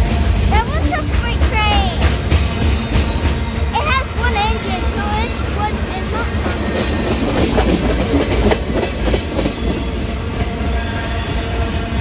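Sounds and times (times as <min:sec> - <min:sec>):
train rumbling past: 0:00.0 - 0:12.0
wheels clacking over rail joints: 0:00.0 - 0:12.0.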